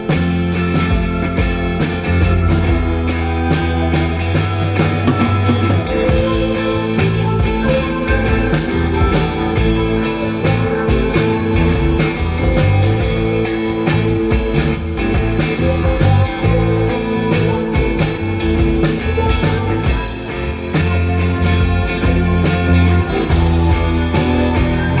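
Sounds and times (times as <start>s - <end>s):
bass guitar: 0.0s - 25.0s
drum kit steady beat: 0.0s - 25.0s
guitar: 0.0s - 25.0s.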